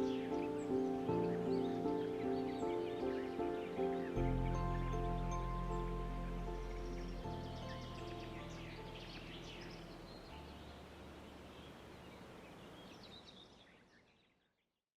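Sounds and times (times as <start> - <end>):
soft background music: 0.0 - 12.1
wild birds chirping: 0.0 - 14.5.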